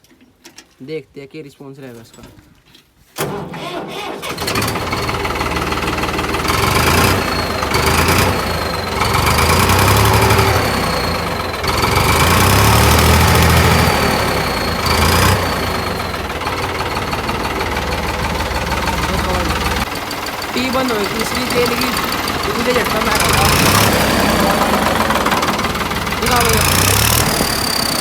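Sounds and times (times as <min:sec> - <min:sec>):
tractor diesel engine revving: 0:03.2 - 0:28.0.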